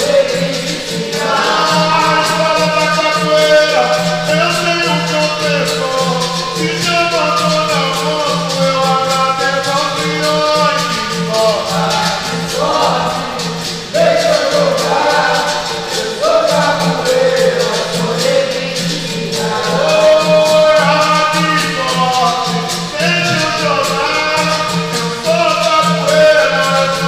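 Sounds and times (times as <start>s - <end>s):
berimbau: 0.0s - 27.0s
group singing: 0.0s - 27.0s
hand clapping: 0.0s - 27.0s
pandeiro: 0.0s - 27.0s.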